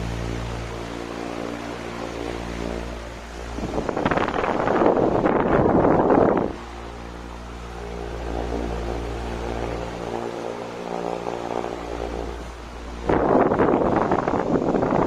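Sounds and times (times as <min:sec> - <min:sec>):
fan motor humming: 0:00.0 - 0:15.0
rush of air on microphone: 0:00.0 - 0:15.0.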